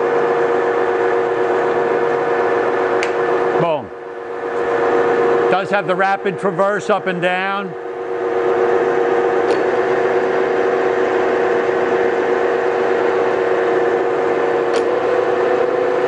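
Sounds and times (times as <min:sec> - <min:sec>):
grinder motor hum: 0:00.0 - 0:16.0.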